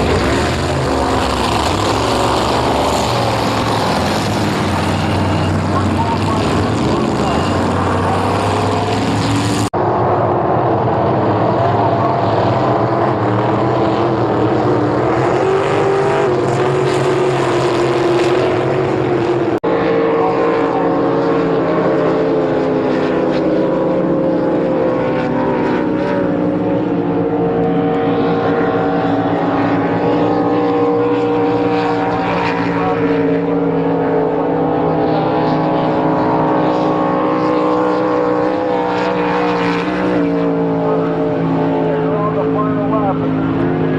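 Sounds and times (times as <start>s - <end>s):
powerboat engines droning: 0.0s - 43.9s.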